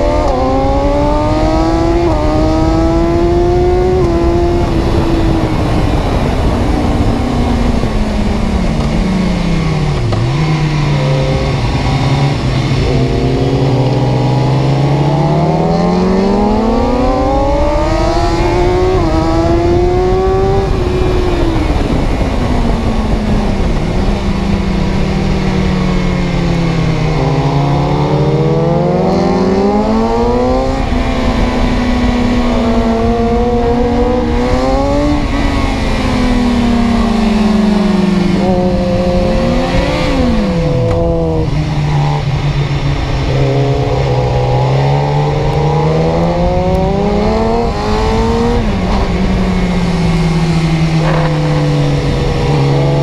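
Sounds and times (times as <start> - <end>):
car engine accelerating and slowing: 0.0 - 53.0.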